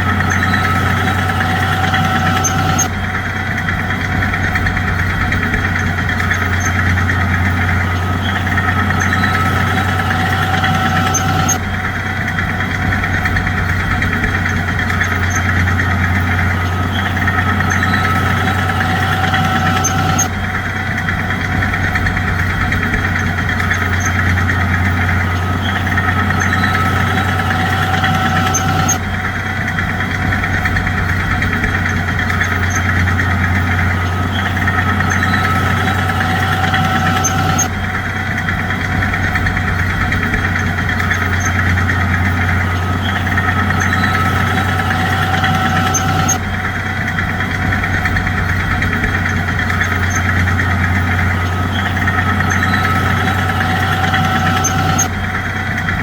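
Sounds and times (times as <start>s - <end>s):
bulldozer diesel engine humming: 0.0s - 56.0s.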